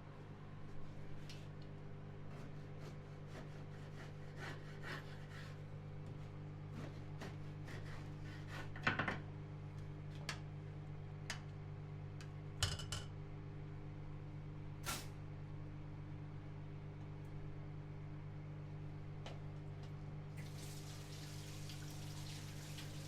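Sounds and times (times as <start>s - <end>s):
steady low hum: 0.0s - 21.6s.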